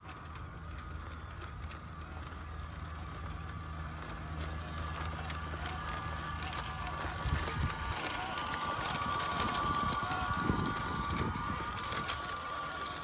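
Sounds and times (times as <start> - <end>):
electric motor whining: 0.0 - 13.0
low hum: 0.0 - 13.0.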